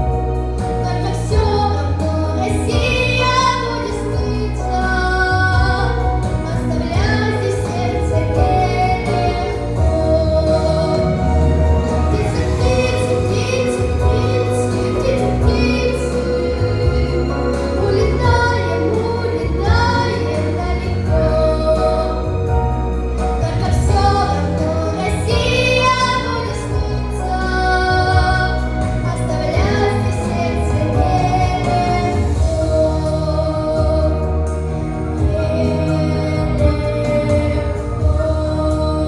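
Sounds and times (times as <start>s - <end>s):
backing track with bass: 0.0s - 39.0s
girl singing: 0.8s - 22.3s, 23.3s - 34.5s, 35.1s - 39.0s.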